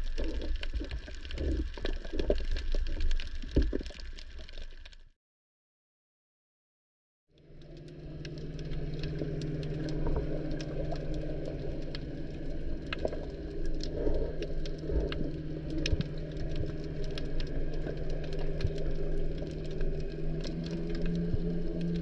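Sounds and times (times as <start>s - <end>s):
steady low underwater hum: 0.0s - 5.0s, 7.3s - 22.0s
sharp clicks and crackles: 0.0s - 5.1s, 7.4s - 22.0s.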